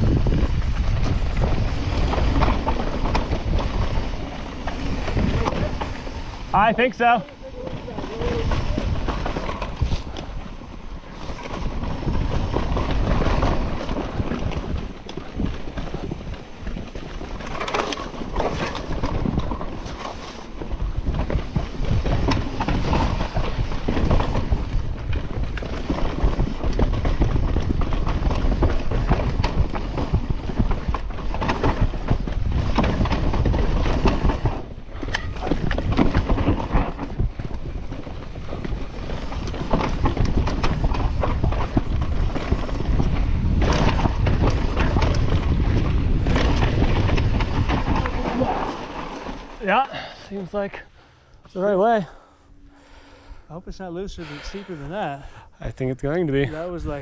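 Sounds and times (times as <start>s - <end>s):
wind buffeting microphone: 0.0s - 51.0s
bike clicks and rattles: 0.0s - 53.4s
tyres rumbling on dirt: 0.0s - 57.0s.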